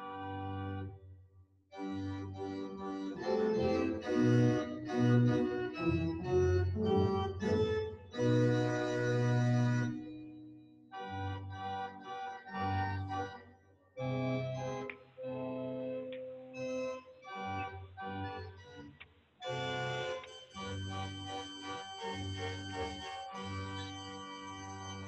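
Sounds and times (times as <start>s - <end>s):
organ playing hymn chords: 0.0s - 1.0s, 1.8s - 25.0s.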